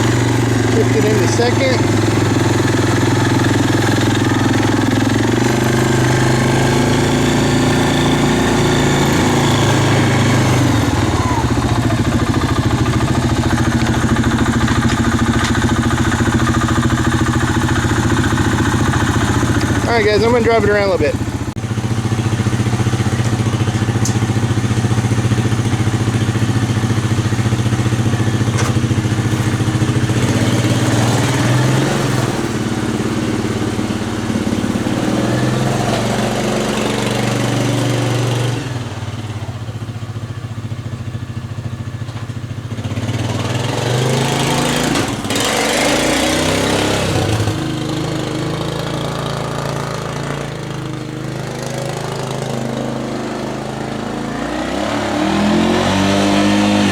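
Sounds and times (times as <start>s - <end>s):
quad bike engine revving: 0.0s - 56.9s.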